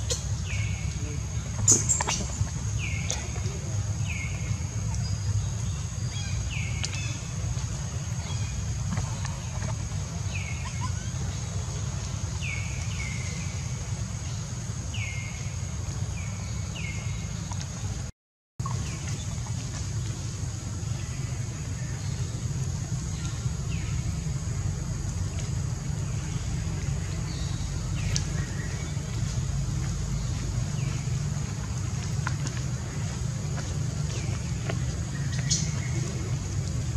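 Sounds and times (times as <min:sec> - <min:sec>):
steady high hiss: 0:00.0 - 0:36.9
steady low rumble: 0:00.0 - 0:36.9.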